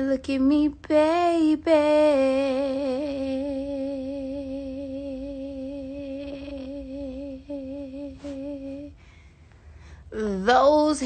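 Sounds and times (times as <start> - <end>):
woman singing unaccompanied: 0.0 - 9.0, 10.1 - 11.0.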